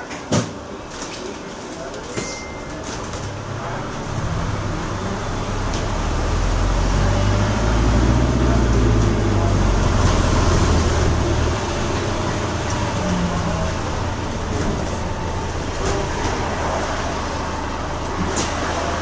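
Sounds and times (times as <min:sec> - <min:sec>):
bus drive drone: 0:03.0 - 0:19.0.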